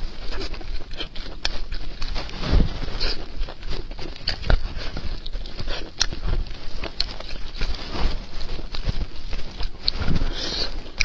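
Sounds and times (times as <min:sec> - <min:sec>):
wet chewing and mouth smacking: 0:00.0 - 0:11.0.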